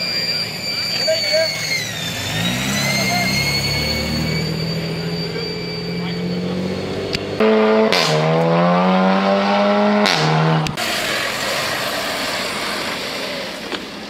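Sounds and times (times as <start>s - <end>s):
traffic noise: 0.0s - 14.0s
car engine accelerating: 1.5s - 14.0s.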